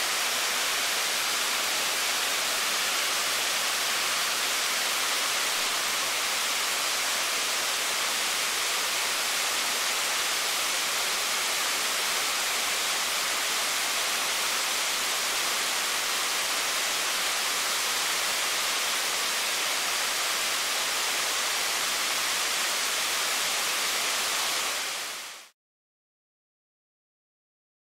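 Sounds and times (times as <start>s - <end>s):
waterfall rushing: 0.0s - 25.5s.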